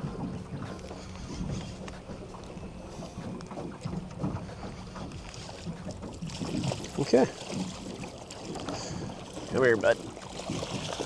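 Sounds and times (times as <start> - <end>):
steady low hum: 0.0 - 11.0
water sounds: 0.0 - 11.0
wind buffeting microphone: 0.0 - 11.0.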